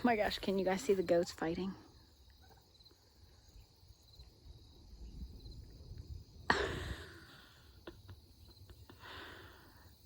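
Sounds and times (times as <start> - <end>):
faint insects chirping: 0.0 - 10.0.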